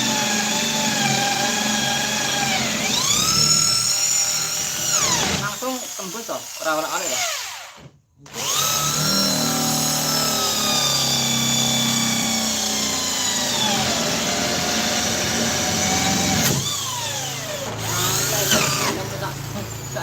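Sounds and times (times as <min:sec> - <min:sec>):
electric drill boring through wood: 0:00.0 - 0:20.0.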